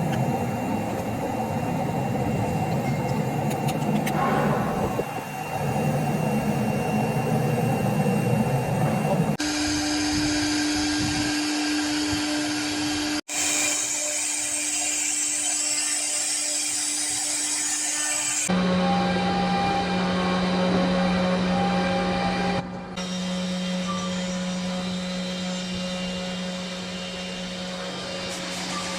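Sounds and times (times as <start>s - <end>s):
router spindle whine cutting: 0.0s - 28.9s.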